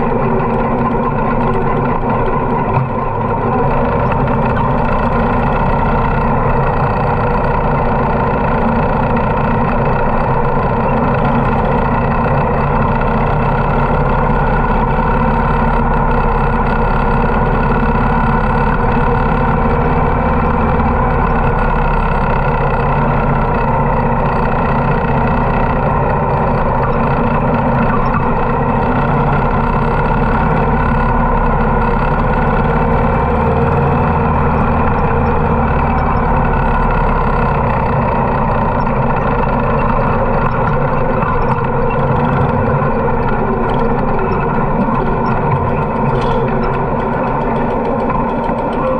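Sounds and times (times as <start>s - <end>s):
motorcycle engine rumbling: 0.0s - 48.9s.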